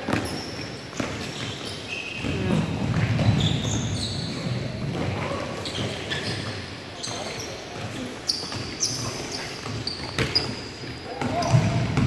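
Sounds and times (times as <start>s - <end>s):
sneakers squeaking on court: 0.0s - 12.0s
players' voices echoing: 1.2s - 12.0s.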